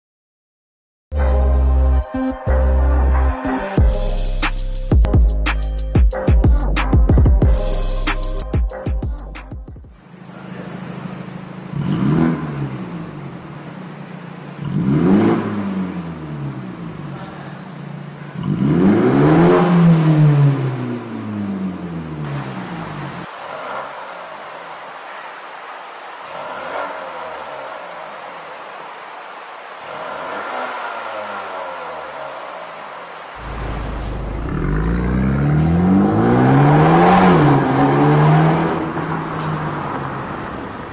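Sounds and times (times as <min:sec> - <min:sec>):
car engine idling and revving: 0:02.5 - 0:40.9.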